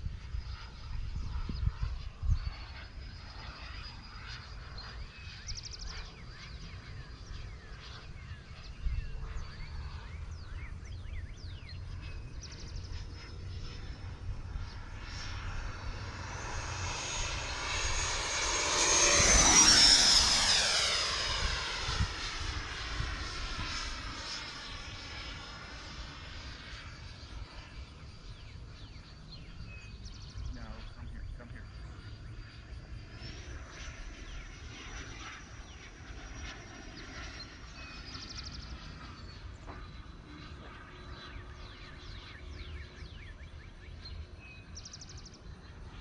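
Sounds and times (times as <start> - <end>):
model jet fan whine flyby: 0.0 - 46.0.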